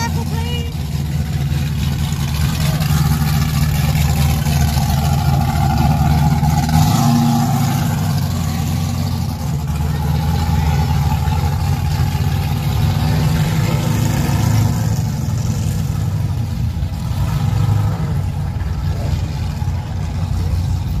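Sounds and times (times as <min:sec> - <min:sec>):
car engine rumbling at low revs: 0:00.0 - 0:21.0.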